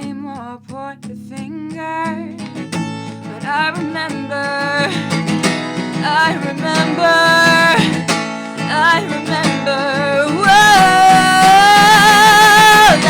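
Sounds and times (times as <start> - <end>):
person singing: 0.0 - 2.4, 3.4 - 5.4, 6.0 - 13.0
acoustic guitar: 0.0 - 13.0.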